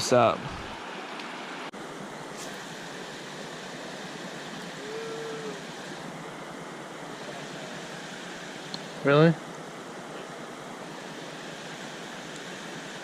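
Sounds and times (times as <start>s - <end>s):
river water over rocks: 0.0s - 13.0s.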